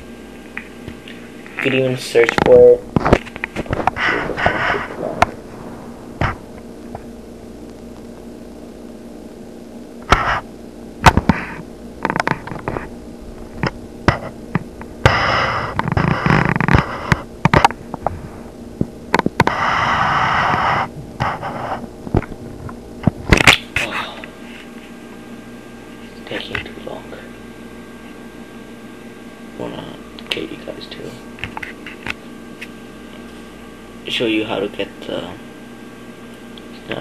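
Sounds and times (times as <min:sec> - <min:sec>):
low hum: 0:00.0 - 0:34.1.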